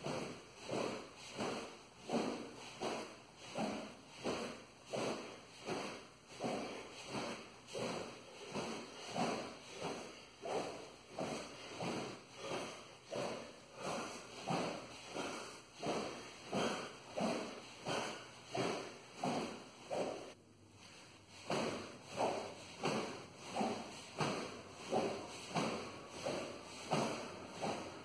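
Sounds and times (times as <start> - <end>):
sword whooshing through air: 0.0 - 20.4, 21.4 - 28.0.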